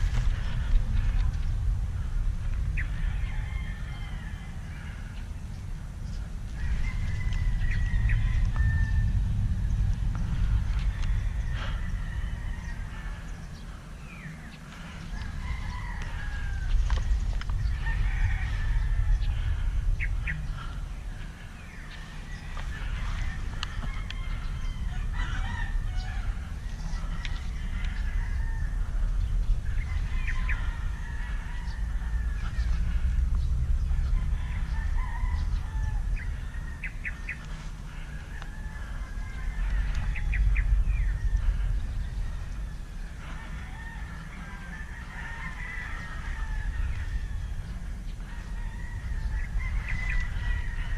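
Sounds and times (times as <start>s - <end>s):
fowl calling: 0.0s - 5.4s, 6.0s - 50.9s
low rumble: 0.0s - 50.9s.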